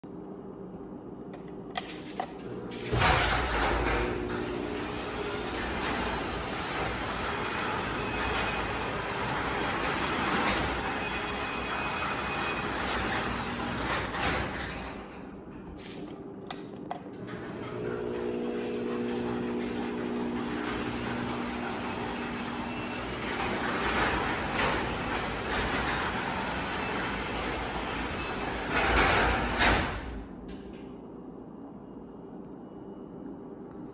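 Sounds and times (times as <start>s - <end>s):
garage door clicks: 1.8s - 31.0s
garage door rolling: 1.8s - 31.0s.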